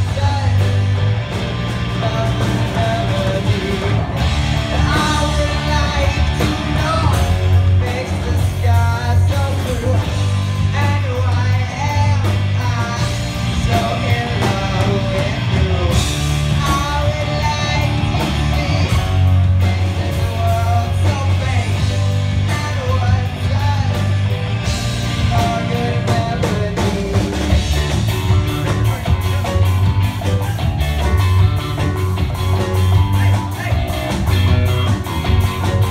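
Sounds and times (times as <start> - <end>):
live band playing ska: 0.0 - 35.9.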